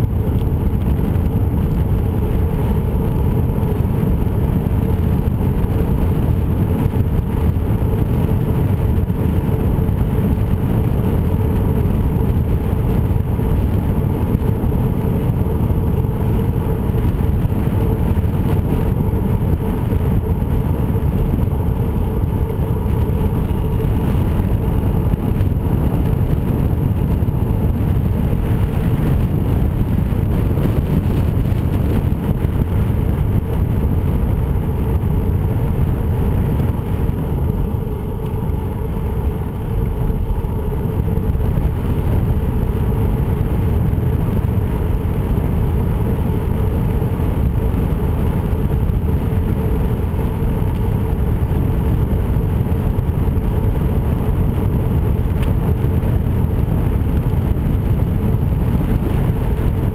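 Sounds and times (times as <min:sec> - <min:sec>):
faint steady hum: 0:00.0 - 0:59.9
ride vibration: 0:00.0 - 0:59.9
wind rumble: 0:00.0 - 0:59.9.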